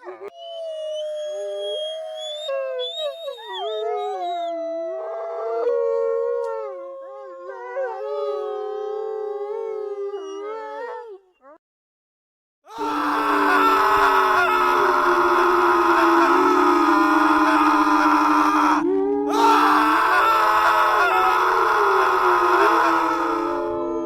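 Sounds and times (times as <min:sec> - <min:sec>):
wolf-like howls: 0:00.8 - 0:11.2, 0:12.7 - 0:24.0.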